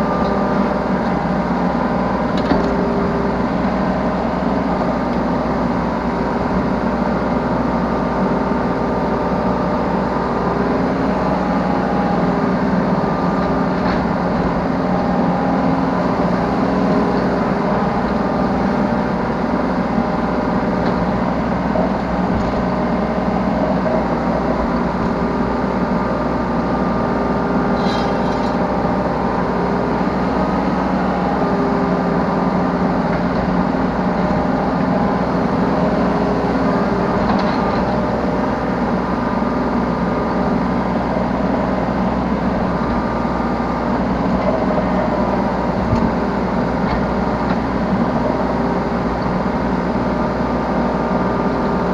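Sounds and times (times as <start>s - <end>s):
diesel excavator engine running: 0.0s - 51.9s.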